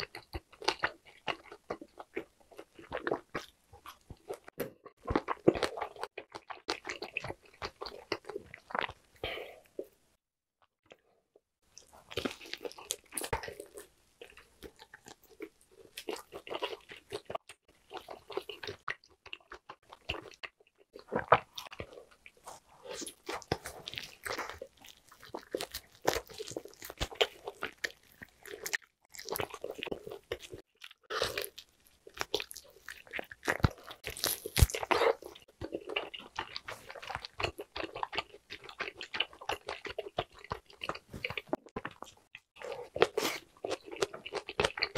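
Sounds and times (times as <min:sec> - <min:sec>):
person chewing meat: 0:00.0 - 0:09.9, 0:11.8 - 0:44.9.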